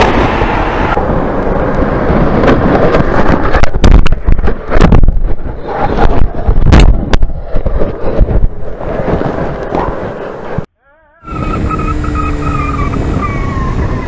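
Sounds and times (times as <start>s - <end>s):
wind rush on microphone: 0.0s - 10.7s, 11.3s - 14.0s.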